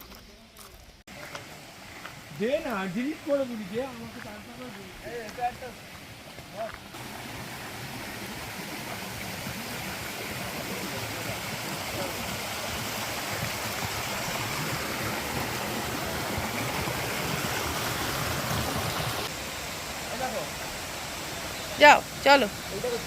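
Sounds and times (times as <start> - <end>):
stream water rushing: 1.1 - 23.0.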